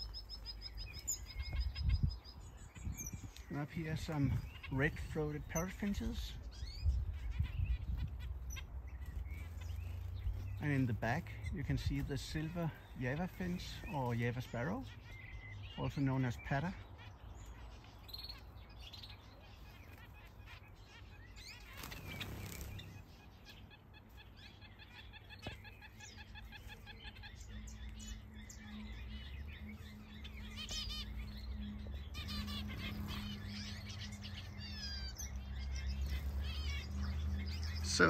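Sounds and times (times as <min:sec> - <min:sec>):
finches chirping and trilling: 0:00.0 - 0:38.0.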